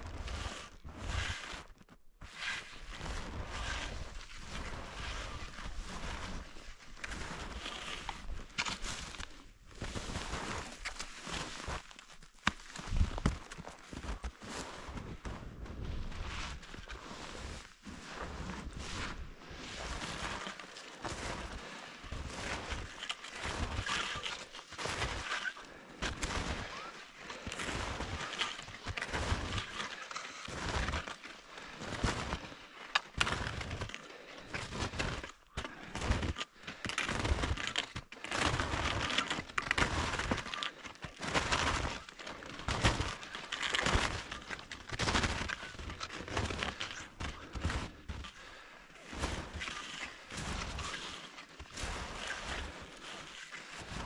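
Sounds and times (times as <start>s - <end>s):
footsteps crunching through snow: 0.1s - 54.0s.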